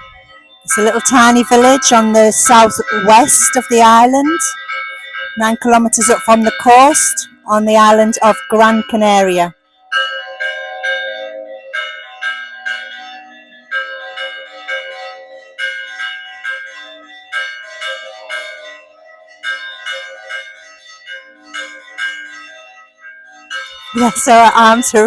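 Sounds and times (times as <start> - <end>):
church bells rung by hand: 0.0 - 25.0
lower bell: 0.0 - 25.0.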